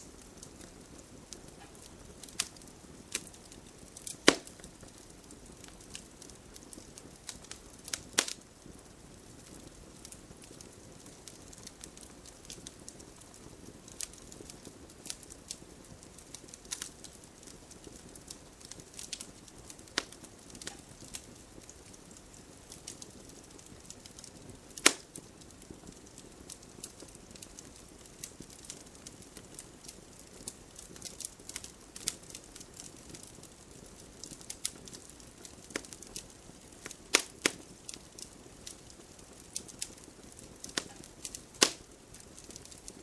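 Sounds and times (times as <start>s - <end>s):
wood campfire crackling: 0.0s - 43.0s.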